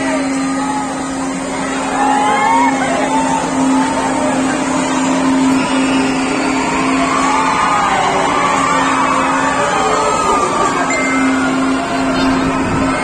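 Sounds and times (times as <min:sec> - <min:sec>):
ride machinery humming: 0:00.0 - 0:13.0
riders screaming: 0:00.3 - 0:13.0.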